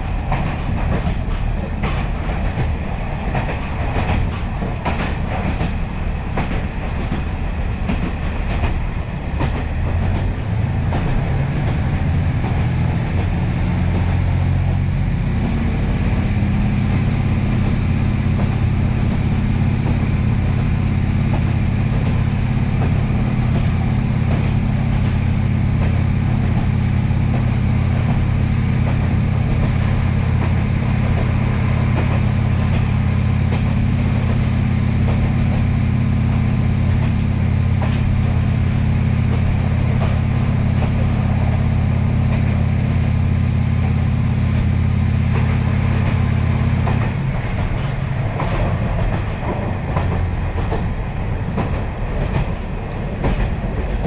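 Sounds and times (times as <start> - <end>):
diesel engine drone: 0.0 - 54.0
wheel-on-rail noise: 0.0 - 54.0.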